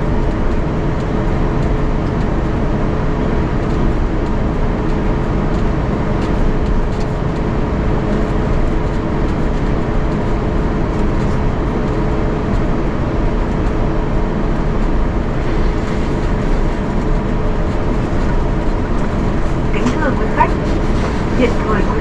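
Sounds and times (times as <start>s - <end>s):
jet engines idling rumble: 0.0s - 22.0s
steady cabin hum: 0.0s - 22.0s.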